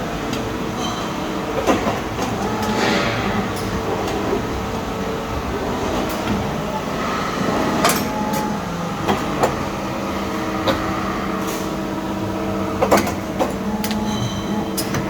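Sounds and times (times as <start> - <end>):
machine motor whine: 1.6 - 15.0.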